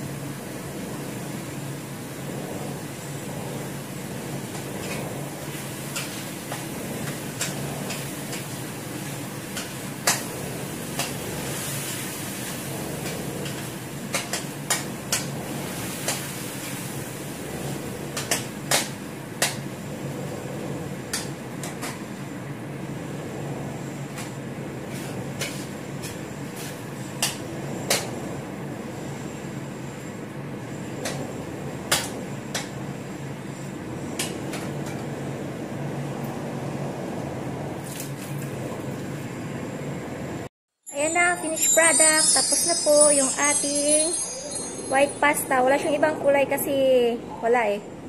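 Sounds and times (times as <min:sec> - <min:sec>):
steady background hum: 0:00.0 - 0:48.0.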